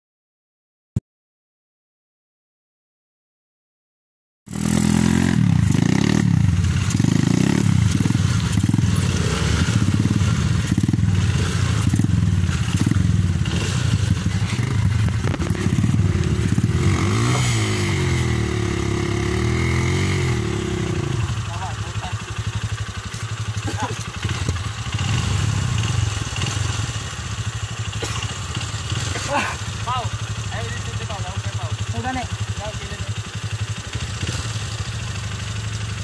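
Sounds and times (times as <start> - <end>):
dirt bike engine revving: 4.5 - 36.0.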